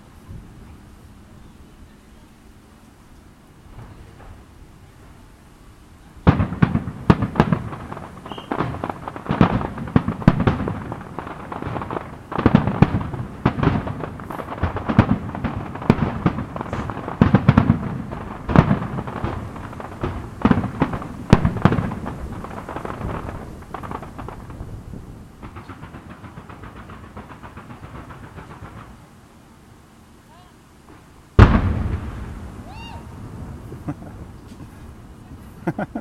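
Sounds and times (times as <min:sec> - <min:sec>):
fireworks bursts and bangs: 0:03.5 - 0:05.4, 0:06.0 - 0:29.4, 0:30.8 - 0:36.0.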